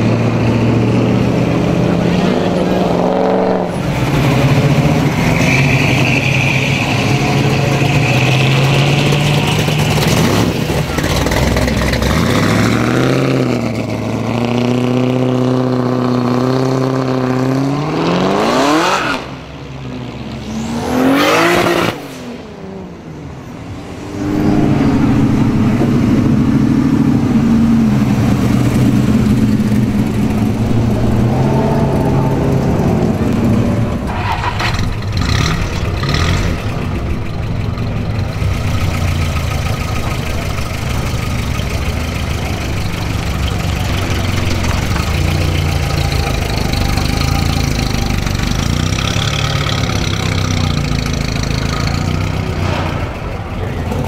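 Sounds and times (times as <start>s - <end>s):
vehicle engine running: 0.0s - 17.0s, 23.7s - 54.0s
muscle car engine accelerating: 0.0s - 54.0s.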